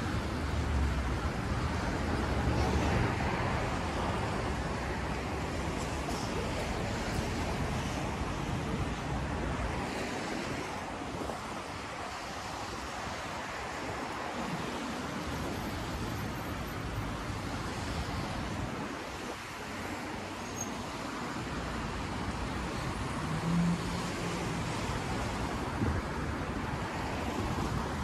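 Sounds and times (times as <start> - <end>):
tyres hissing on wet asphalt: 0.0 - 28.0.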